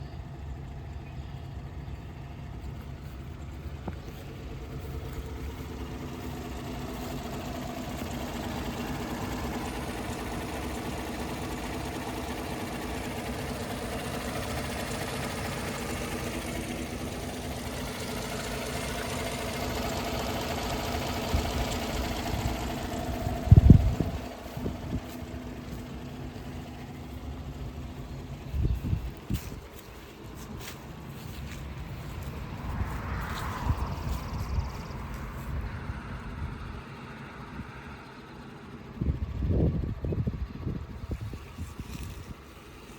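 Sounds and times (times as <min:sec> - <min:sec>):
pickup engine idling: 0:00.0 - 0:42.9.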